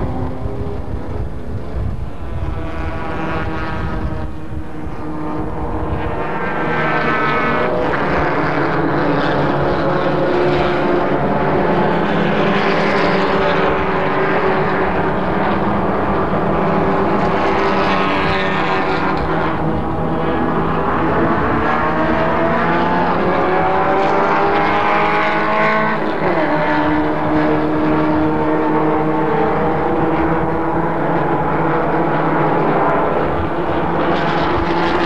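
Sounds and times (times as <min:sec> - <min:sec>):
race car engines: 0:00.0 - 0:35.0.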